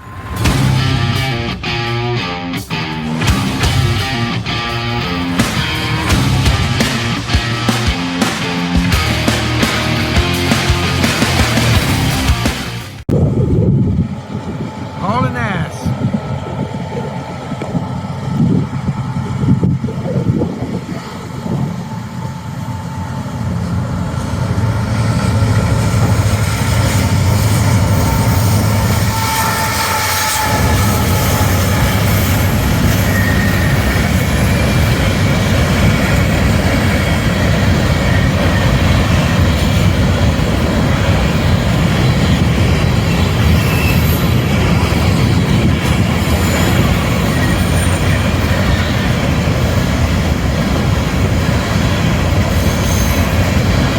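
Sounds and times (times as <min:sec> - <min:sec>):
freight cars rolling on rails: 0:00.0 - 0:15.1, 0:15.7 - 0:53.9
diesel locomotive engine drone: 0:00.0 - 0:53.9.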